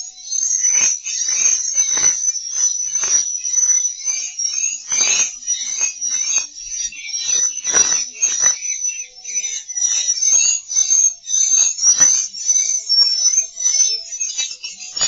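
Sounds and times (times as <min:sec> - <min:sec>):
swiftlets twittering: 0:00.0 - 0:15.0.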